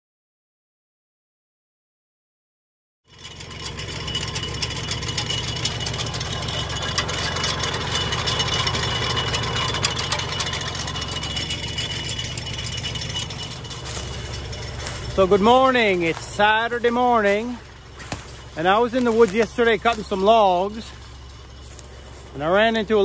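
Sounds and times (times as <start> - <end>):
engine running at low speed: 3.1 - 23.0.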